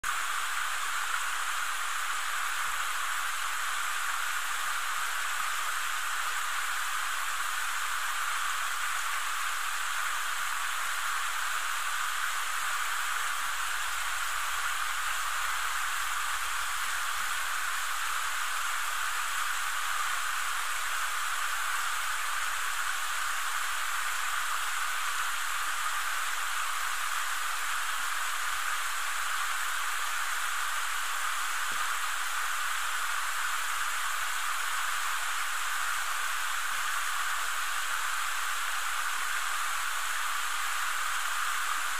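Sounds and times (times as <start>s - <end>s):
water cascading over rocks: 0.0s - 41.9s.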